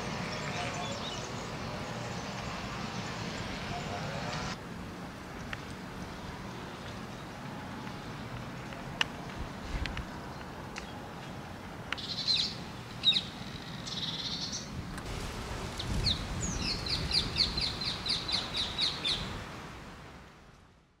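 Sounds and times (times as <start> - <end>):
songbirds chirping: 0.0 - 15.1, 15.7 - 19.7.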